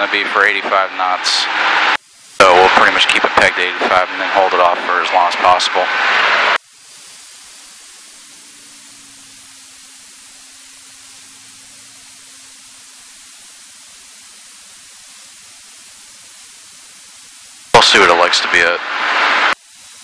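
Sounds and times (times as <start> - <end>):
steady electronic hiss: 0.0 - 20.0.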